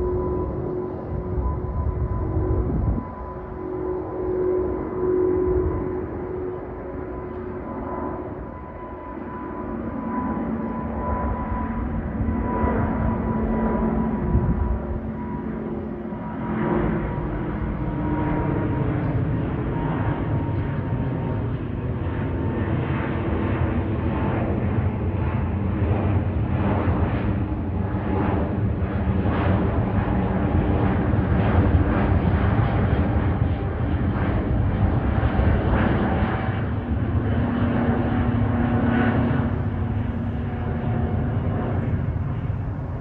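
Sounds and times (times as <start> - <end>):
jet airliner climbing overhead: 0.0 - 43.0.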